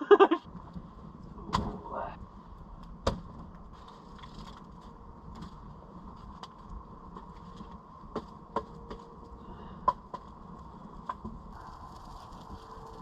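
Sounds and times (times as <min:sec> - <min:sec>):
fire popping: 0:00.0 - 0:13.0
low steady rumble: 0:00.0 - 0:13.0
wood fire crackling: 0:00.1 - 0:13.0.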